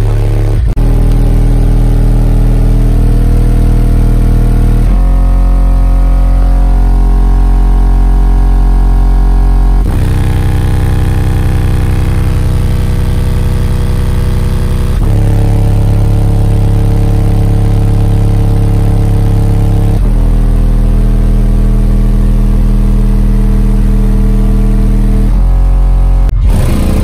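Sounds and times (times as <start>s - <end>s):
bass-heavy music on subwoofers: 0.0s - 27.0s.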